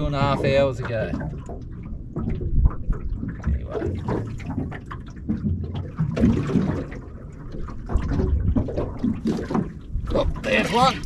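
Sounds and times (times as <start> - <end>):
waves lapping against boat hull: 0.0 - 11.0.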